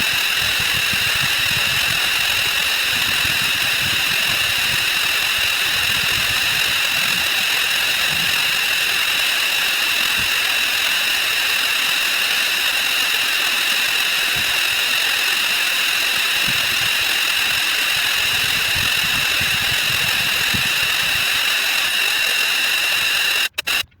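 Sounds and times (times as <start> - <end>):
harsh buzzing hiss: 0.0 - 23.9.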